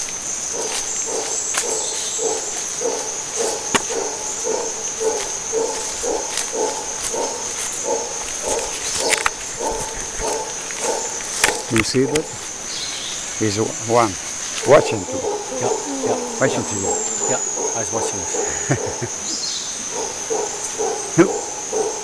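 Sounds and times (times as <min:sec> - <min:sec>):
howler monkeys roaring: 0:00.0 - 0:12.7, 0:13.3 - 0:22.0
high insect drone: 0:00.0 - 0:22.0.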